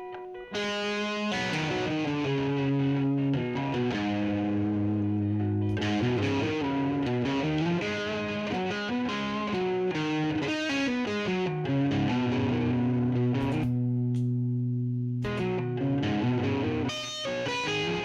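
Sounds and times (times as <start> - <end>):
electric guitar melody: 0.0 - 18.0
looped guitar part: 0.0 - 18.0.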